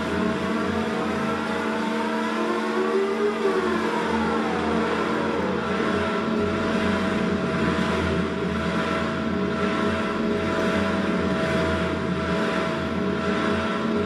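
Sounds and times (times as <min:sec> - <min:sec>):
electronic drone of held tones: 0:00.0 - 0:14.0
low hum: 0:00.0 - 0:14.0.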